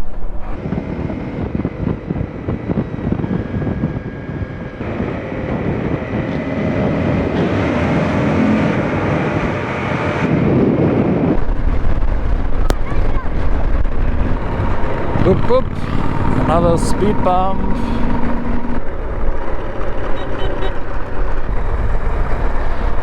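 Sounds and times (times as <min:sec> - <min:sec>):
wind rushing over microphone: 0:00.0 - 0:23.0
motorcycle engine at speed: 0:00.2 - 0:23.0.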